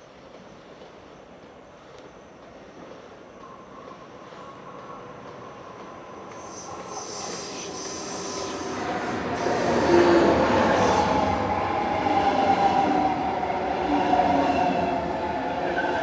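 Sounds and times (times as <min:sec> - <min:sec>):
passenger train arriving: 0:00.0 - 0:16.0.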